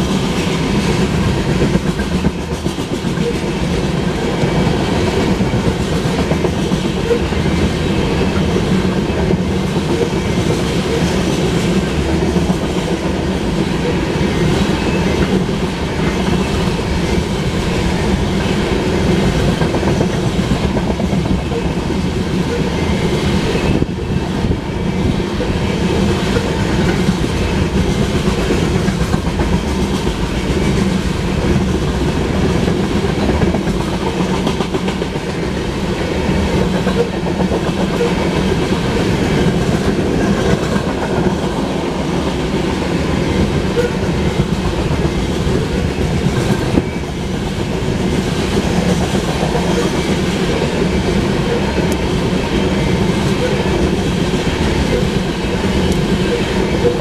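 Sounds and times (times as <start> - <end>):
freight train wheels rolling: 0.0 - 57.0.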